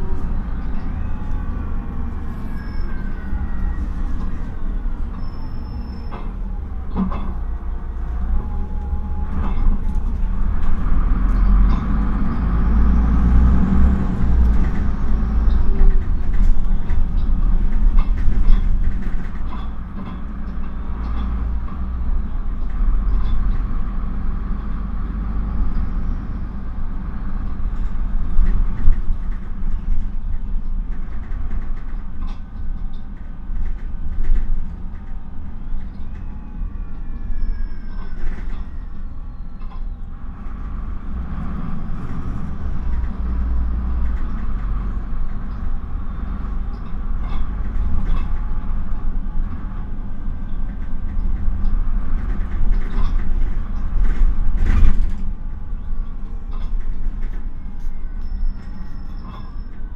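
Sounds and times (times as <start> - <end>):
bus body rattles: 0.0 - 59.9
bus engine rumble: 0.0 - 59.9.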